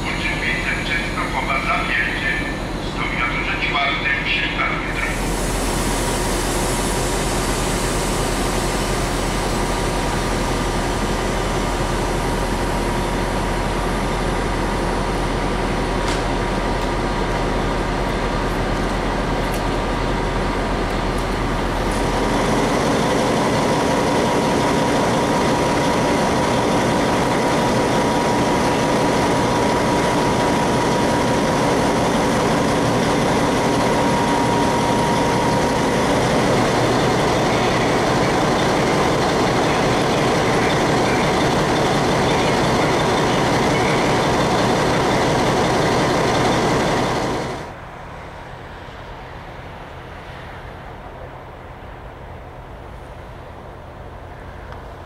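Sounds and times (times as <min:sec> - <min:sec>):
diesel locomotive idling: 0:00.0 - 0:55.0.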